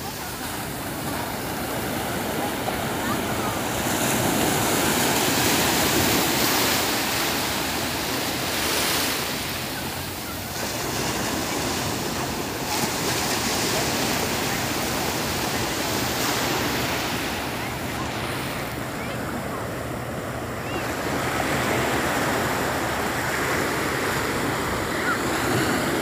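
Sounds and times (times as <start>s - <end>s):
waves breaking on sandy beach: 0.0s - 26.0s.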